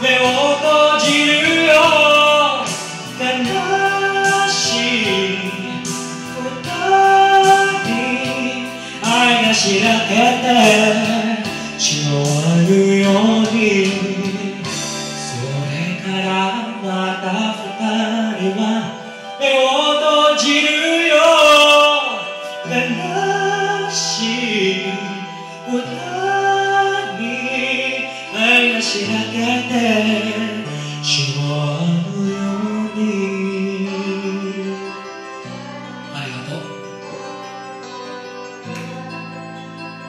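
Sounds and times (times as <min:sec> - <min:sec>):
karaoke backing track: 0:00.0 - 0:40.0
young man singing pop ballad: 0:00.0 - 0:40.0.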